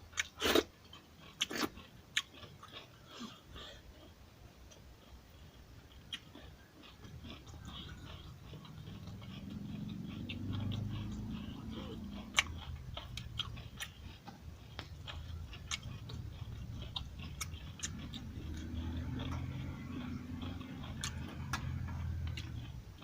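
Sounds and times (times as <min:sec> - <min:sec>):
person chewing with wet smacks: 0:00.0 - 0:23.0.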